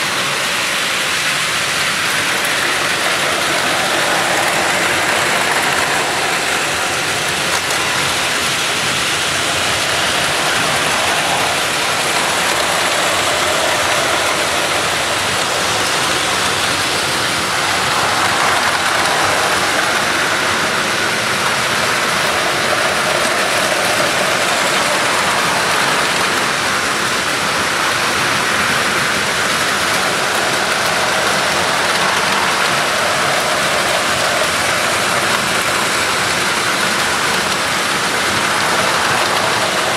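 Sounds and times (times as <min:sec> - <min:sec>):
toy trains clattering on track: 0:00.0 - 0:39.9.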